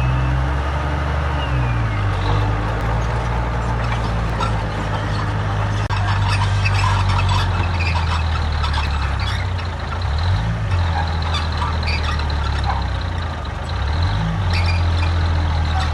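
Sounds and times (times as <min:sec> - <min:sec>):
heavy diesel engine under load: 0:00.0 - 0:15.9.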